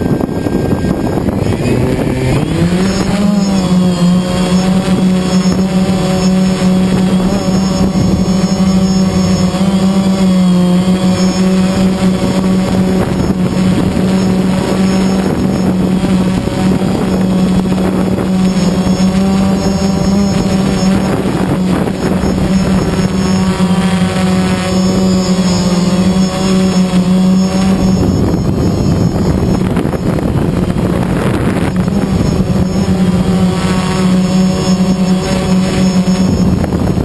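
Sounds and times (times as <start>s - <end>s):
drone motors buzzing hum: 0.0s - 37.0s
wind rushing over microphone: 0.0s - 37.0s.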